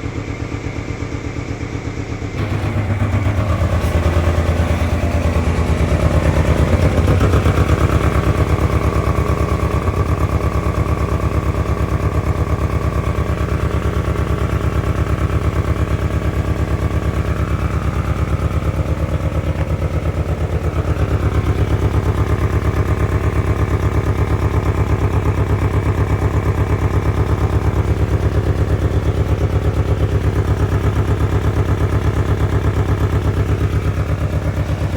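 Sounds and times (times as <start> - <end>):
truck engine idling roughly: 0.0 - 34.9.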